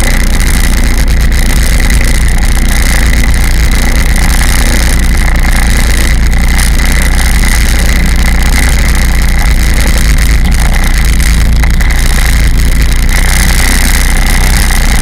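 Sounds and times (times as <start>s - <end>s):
jet ski engine whining: 0.0s - 15.0s.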